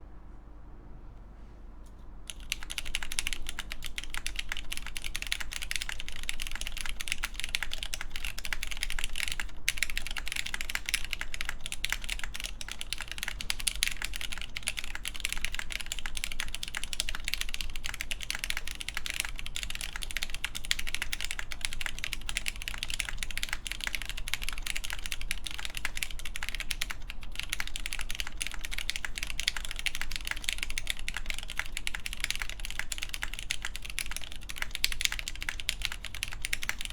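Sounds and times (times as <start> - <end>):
mechanical keyboard typing: 2.3 - 36.9.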